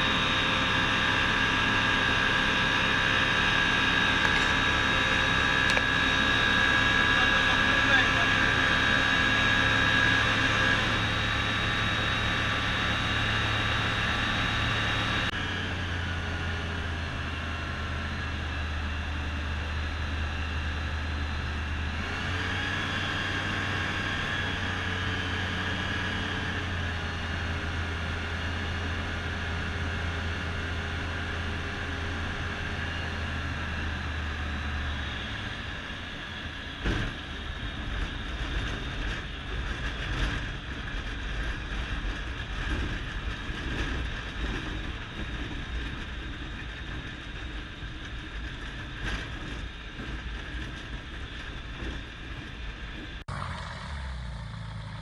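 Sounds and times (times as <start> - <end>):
aircraft engine from cockpit: 0.0 - 55.0.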